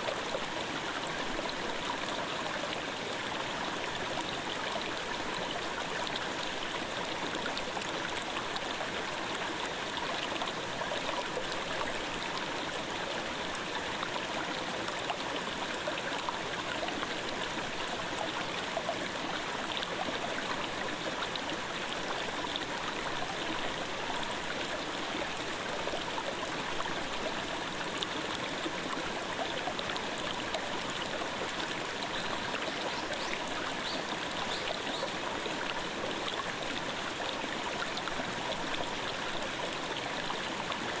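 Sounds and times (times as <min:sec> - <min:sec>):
stream babbling over rocks: 0:00.0 - 0:41.0.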